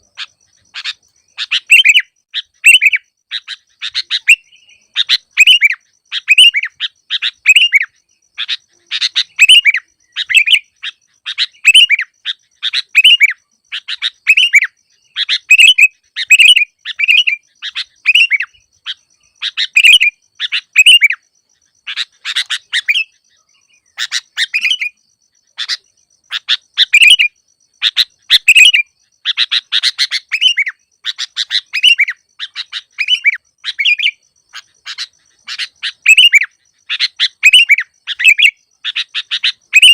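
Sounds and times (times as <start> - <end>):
bulbul chirpy calls: 0.0 - 39.9.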